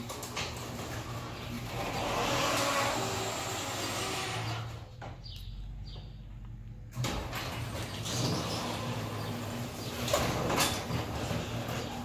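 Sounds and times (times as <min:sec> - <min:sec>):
door rollers rattling on tracks: 0:00.0 - 0:04.9, 0:06.9 - 0:12.0
garage door opener motor humming: 0:00.0 - 0:05.0, 0:06.8 - 0:12.0.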